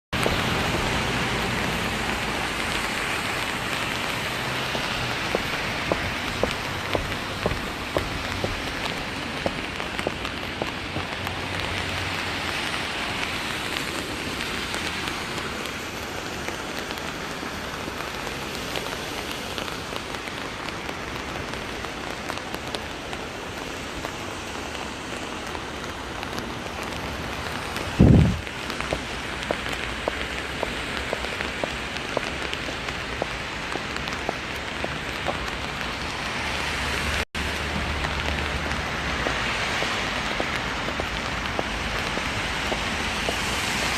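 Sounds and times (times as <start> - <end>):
rain falling: 0.2 - 43.9.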